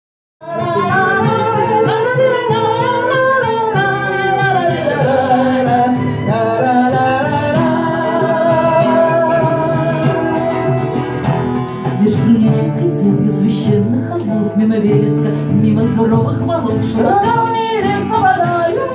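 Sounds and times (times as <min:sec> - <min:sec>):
plucked acoustic guitar: 0:00.4 - 0:18.9.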